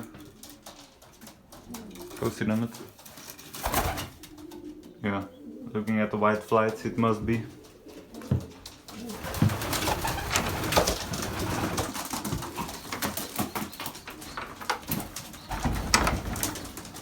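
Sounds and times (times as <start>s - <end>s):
clicks and rustling of birds: 0.0s - 17.0s
pigeons cooing: 0.0s - 17.0s.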